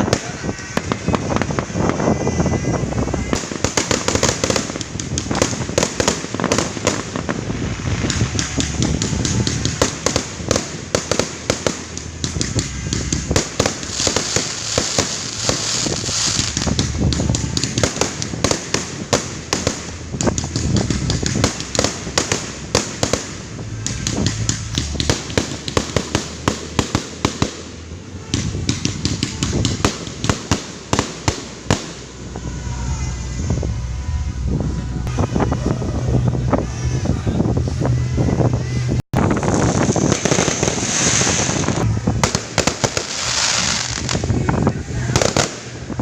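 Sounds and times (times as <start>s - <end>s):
fireworks bangs and pops: 0.0s - 32.3s, 39.1s - 46.0s.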